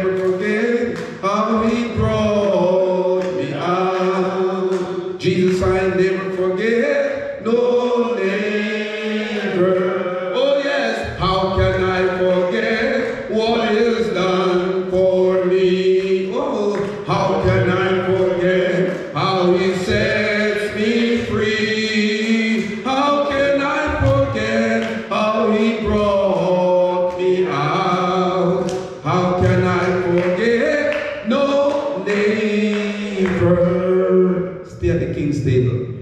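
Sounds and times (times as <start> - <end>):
congregation singing: 0.0 - 35.6.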